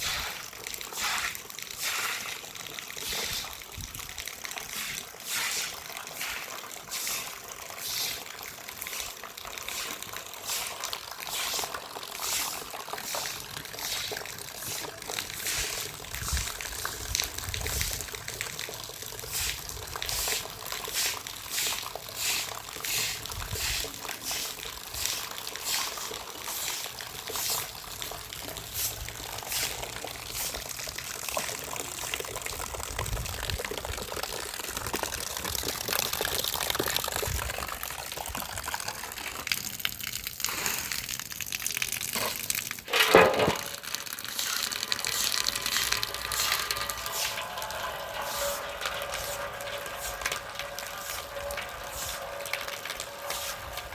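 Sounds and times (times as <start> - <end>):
water pouring and splashing: 0.0 - 53.9.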